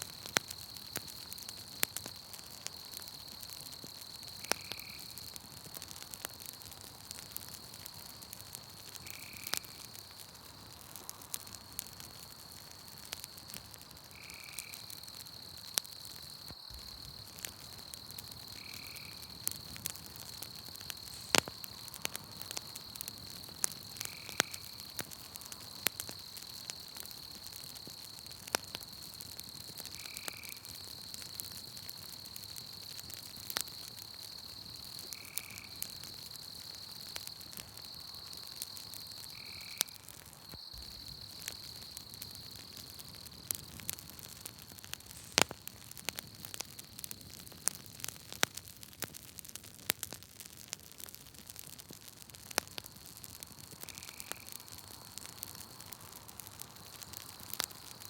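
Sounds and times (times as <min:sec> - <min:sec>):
night insects trilling: 0:00.0 - 0:49.0, 0:52.5 - 0:58.0
campfire crackling and popping: 0:00.0 - 0:58.0.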